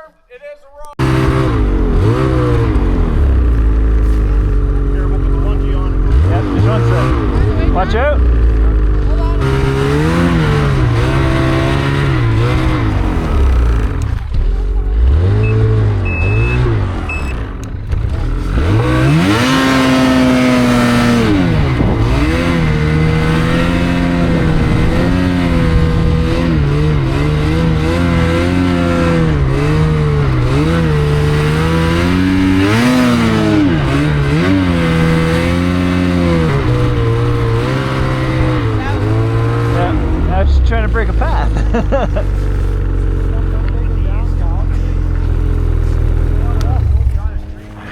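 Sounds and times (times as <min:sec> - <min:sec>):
snowmobile engine revving: 0:00.0 - 0:47.9.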